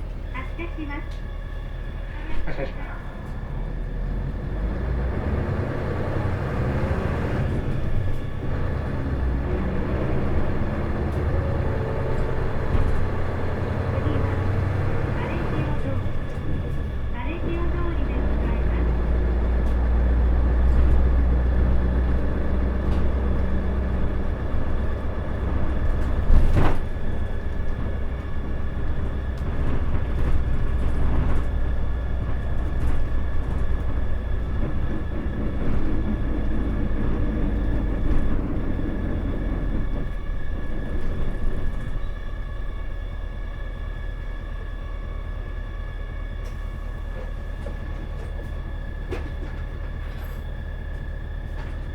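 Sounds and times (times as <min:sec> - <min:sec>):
bus diesel engine rumbling: 0:00.0 - 0:51.9.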